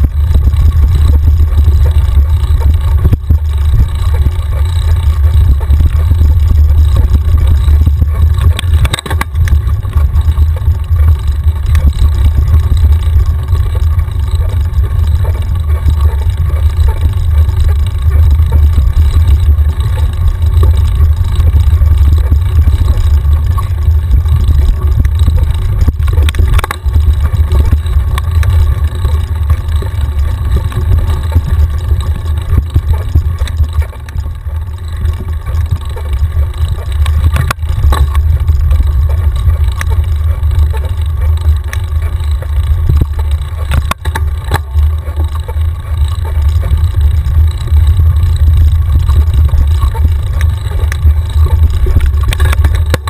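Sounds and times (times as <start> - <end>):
tyre and trail noise: 0.0 - 53.0
wind buffeting microphone: 0.0 - 53.0.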